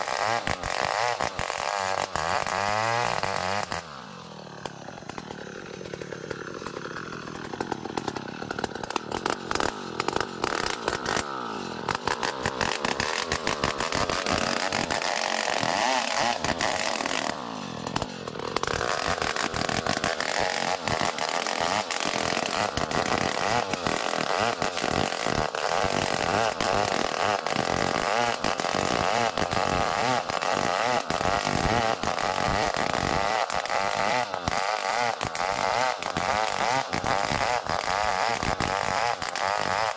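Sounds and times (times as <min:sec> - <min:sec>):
chainsaw sawing wood: 0:00.0 - 0:39.9.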